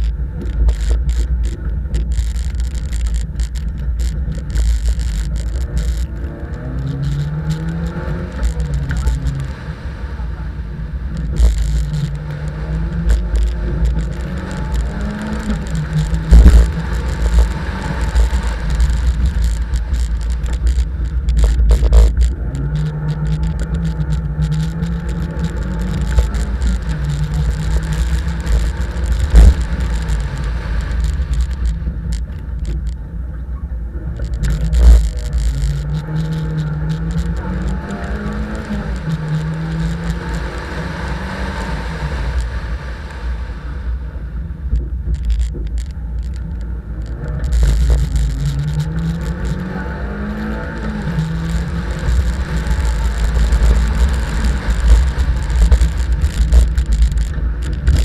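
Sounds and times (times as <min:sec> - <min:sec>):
rally car engine revving: 0:00.0 - 0:58.0
road and wind rumble: 0:00.0 - 0:58.0.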